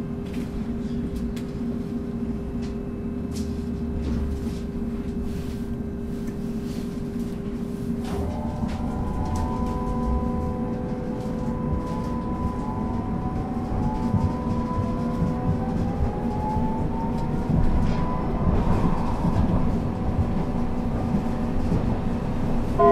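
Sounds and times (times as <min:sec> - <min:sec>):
low hum of light rail car: 0:00.0 - 0:22.9.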